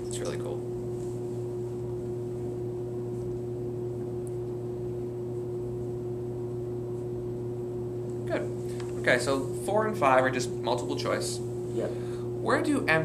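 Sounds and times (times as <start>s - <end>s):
steady room hum with pitched tone: 0.0s - 13.0s.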